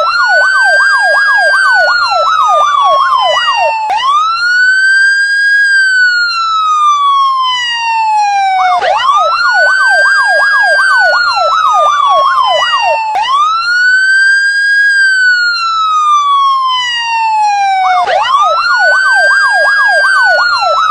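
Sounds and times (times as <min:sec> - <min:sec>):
police siren wailing: 0:00.0 - 0:20.9
siren yelp sweeping up and down: 0:00.0 - 0:20.9.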